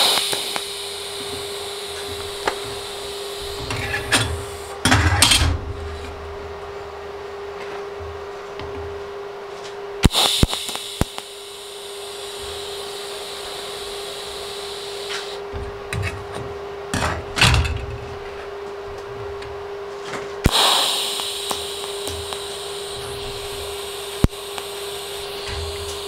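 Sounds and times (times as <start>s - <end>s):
steady hum: 0.0s - 26.0s
welding arc buzzing hiss: 0.0s - 26.0s.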